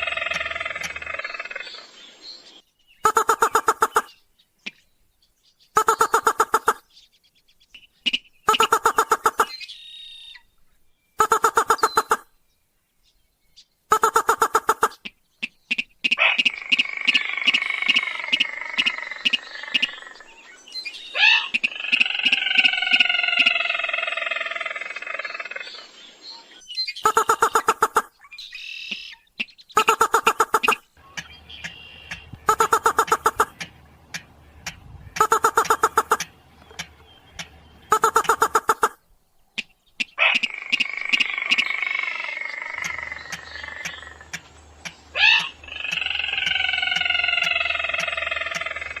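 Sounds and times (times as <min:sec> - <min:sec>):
rail bird calling harsh pulses: 0:03.0 - 0:04.2, 0:05.7 - 0:06.8, 0:07.9 - 0:10.4, 0:11.2 - 0:12.3, 0:13.9 - 0:26.0, 0:26.8 - 0:49.0.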